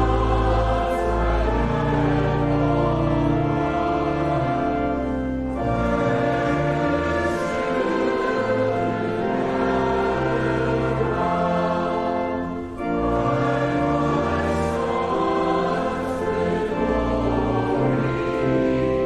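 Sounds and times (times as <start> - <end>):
congregation singing a hymn: 0.0 - 19.0
instrumental accompaniment: 0.0 - 19.0.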